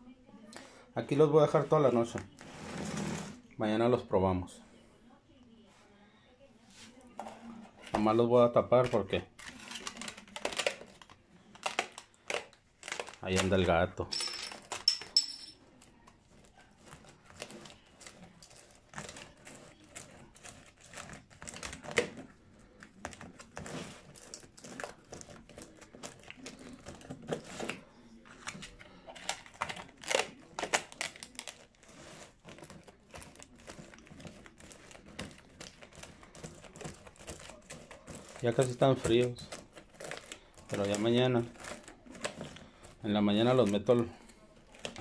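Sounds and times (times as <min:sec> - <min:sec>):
plastic and foil crinkling: 0:06.7 - 0:45.0.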